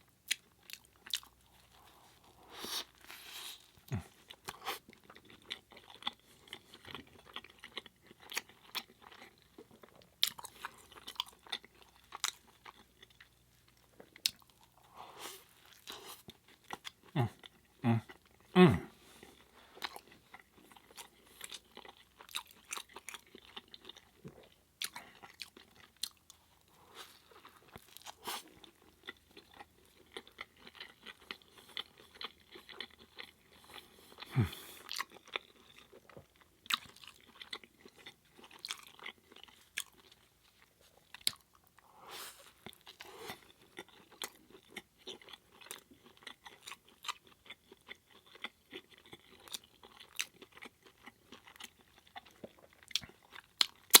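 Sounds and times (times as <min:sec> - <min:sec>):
close-up chewing: 0:00.1 - 0:54.0.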